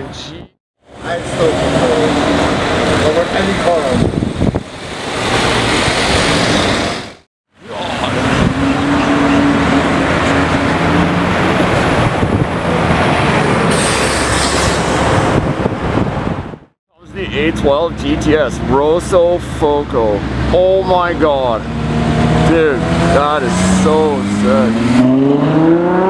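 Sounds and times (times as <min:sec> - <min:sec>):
passing city traffic: 0:00.0 - 0:26.0.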